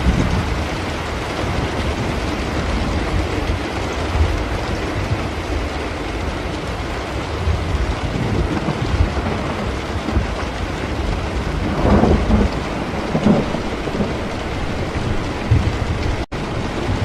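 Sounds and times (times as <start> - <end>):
rolling thunder: 0.0 - 17.0
steady rain: 0.0 - 17.0.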